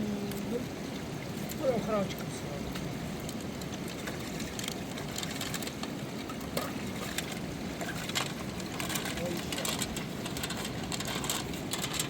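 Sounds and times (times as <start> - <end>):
fast river rushing: 0.0 - 12.0.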